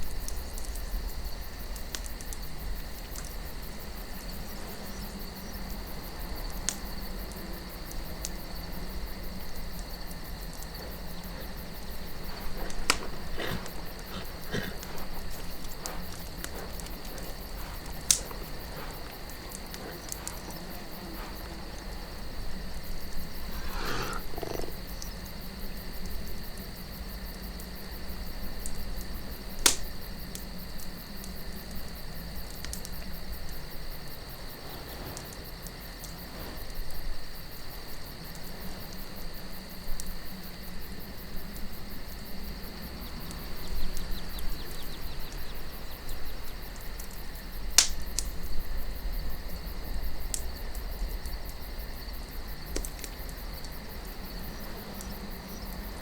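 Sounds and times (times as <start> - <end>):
campfire crackling and popping: 0.0 - 37.5, 38.2 - 56.0
crickets chirring: 0.0 - 56.0.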